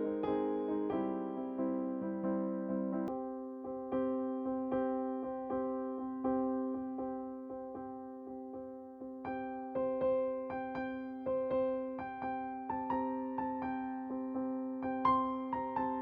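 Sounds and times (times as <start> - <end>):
soft electric piano tune: 0.0 - 16.0.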